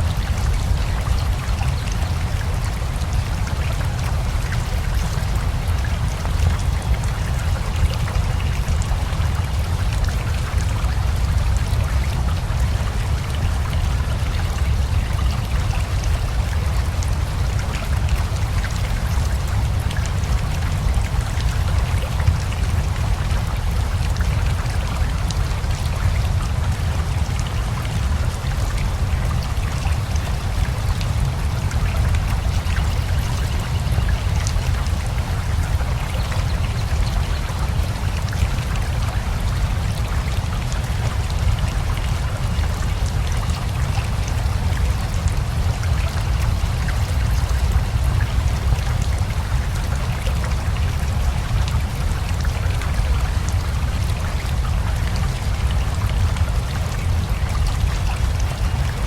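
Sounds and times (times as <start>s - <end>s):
rushing river: 0.0s - 59.0s
steady rain: 0.0s - 59.0s.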